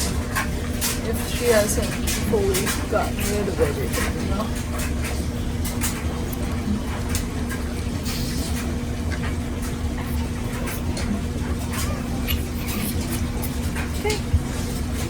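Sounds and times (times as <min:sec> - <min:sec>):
dog licking and chewing: 0:00.0 - 0:15.0
steady low hum: 0:00.0 - 0:15.0.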